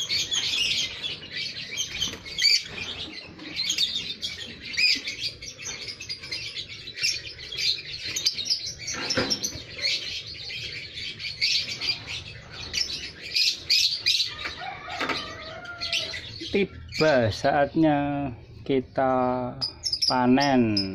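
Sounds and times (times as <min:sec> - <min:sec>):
lovebirds chirping: 0:00.0 - 0:20.9.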